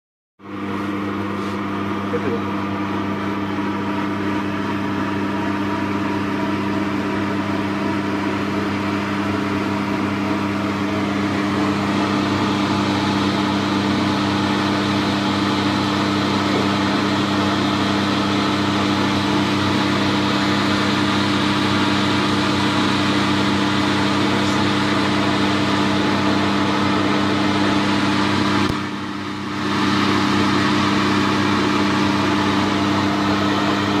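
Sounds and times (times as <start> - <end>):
mechanical hum: 0.4 - 34.0.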